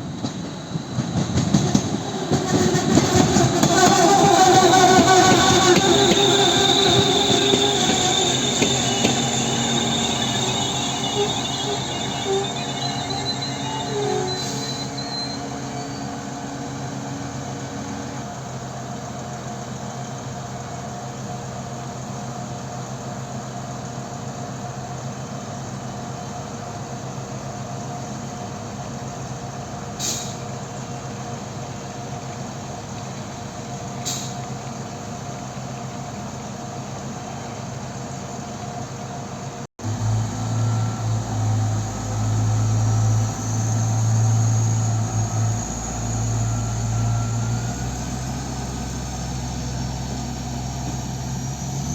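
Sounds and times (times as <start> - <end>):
railcar engine hum: 0.0 - 51.9.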